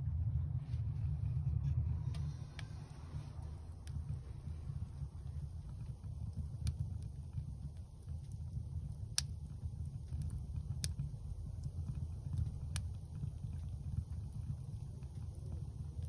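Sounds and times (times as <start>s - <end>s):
low rumble of flame: 0.0s - 16.0s
wood crackling and popping: 0.8s - 16.0s.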